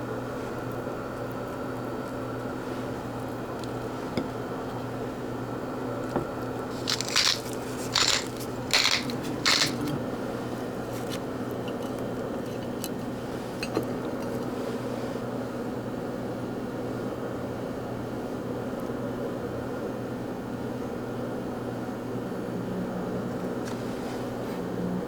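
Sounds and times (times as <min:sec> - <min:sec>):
appliance hum: 0:00.0 - 0:25.0.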